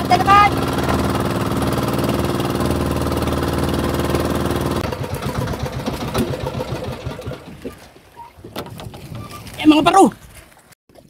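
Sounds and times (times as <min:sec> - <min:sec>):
small boat engine chugging: 0:00.0 - 0:09.5.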